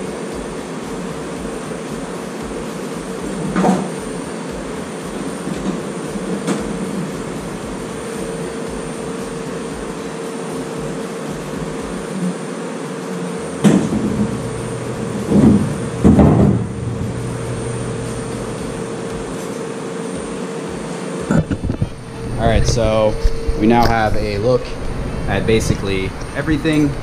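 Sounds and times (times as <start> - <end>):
faint high whine: 0.0 - 27.0
machine shop hum: 0.0 - 27.0.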